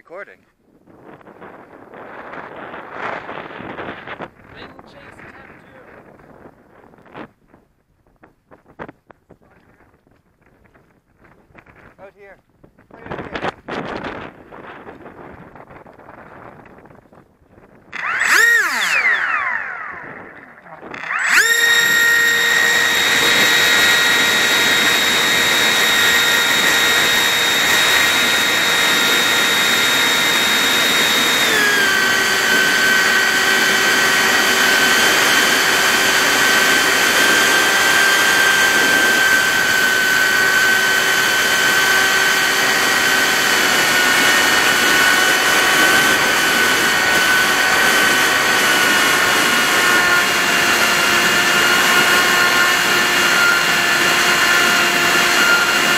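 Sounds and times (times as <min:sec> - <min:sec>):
wind rush on microphone: 0:00.5 - 0:55.9
model plane motor whine: 0:01.0 - 0:07.6, 0:12.9 - 0:55.9.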